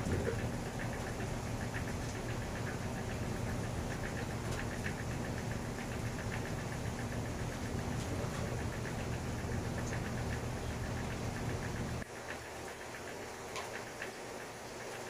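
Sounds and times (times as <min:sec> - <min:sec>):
stove rumbling: 0:00.0 - 0:14.5.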